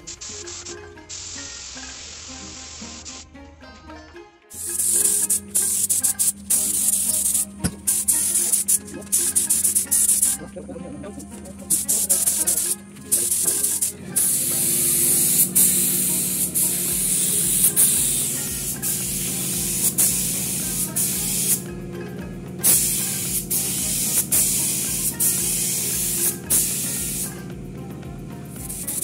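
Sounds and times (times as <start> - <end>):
spray paint hissing: 0.0 - 3.2, 4.5 - 29.0.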